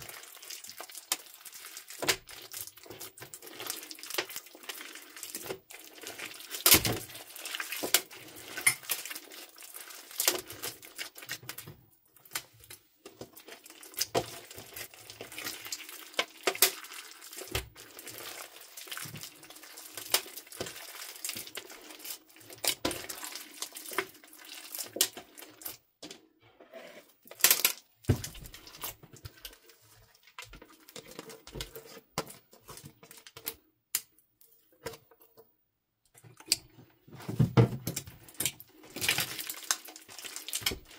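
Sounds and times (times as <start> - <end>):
slime squelching: 0.0 - 25.9, 27.2 - 33.5, 37.9 - 40.9.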